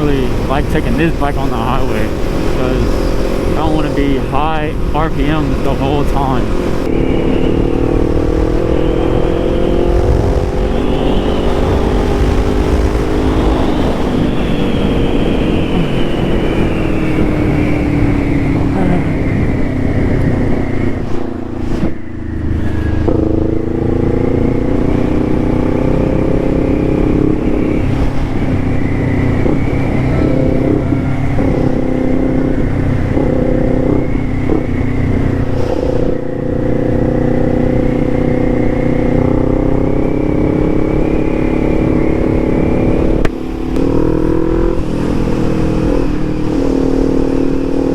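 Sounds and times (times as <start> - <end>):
motorcycle engine revving: 0.0 - 47.9
rushing wind: 0.0 - 47.9.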